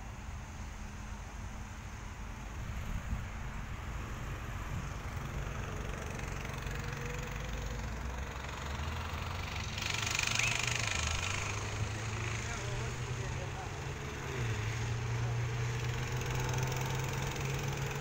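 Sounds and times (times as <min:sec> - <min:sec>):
quad bike engine running: 0:02.6 - 0:18.0.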